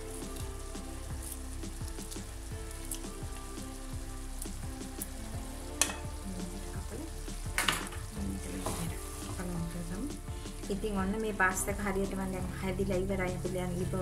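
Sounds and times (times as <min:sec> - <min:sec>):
spaghetti frying in a pan: 0:00.0 - 0:14.0.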